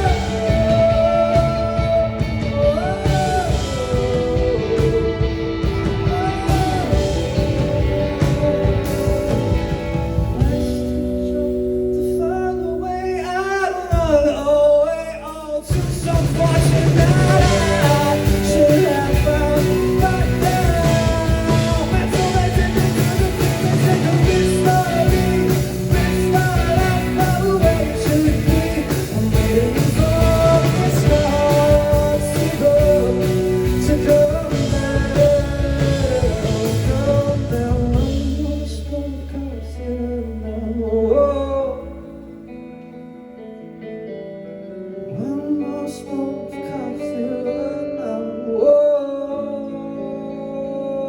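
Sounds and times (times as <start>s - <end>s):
live rock band with singer: 0.0s - 51.0s.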